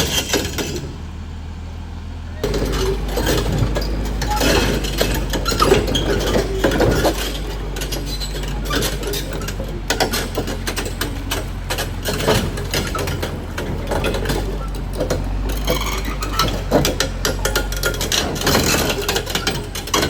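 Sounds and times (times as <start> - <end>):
bulldozer diesel engine: 0.0 - 20.0
metallic clanking of tracks: 0.0 - 20.0.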